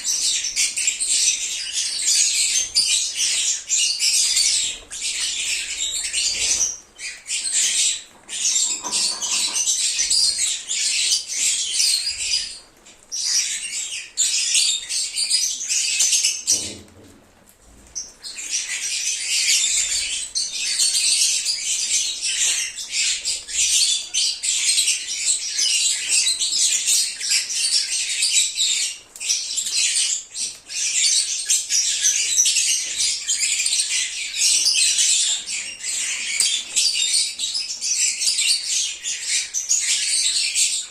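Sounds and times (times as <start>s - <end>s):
lovebirds chattering and chirping: 0.0s - 17.1s, 17.7s - 40.9s.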